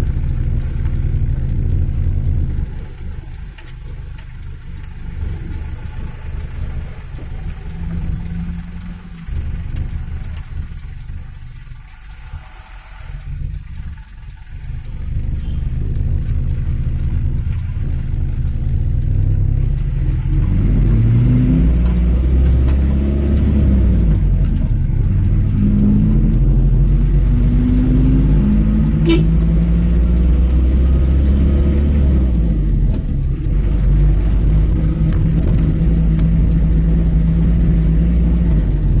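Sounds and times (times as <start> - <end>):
vehicle engine revving: 0.0 - 39.0.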